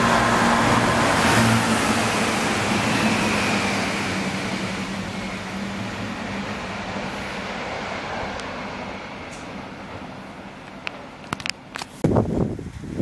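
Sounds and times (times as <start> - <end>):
train wheels rushing: 0.0 - 11.3.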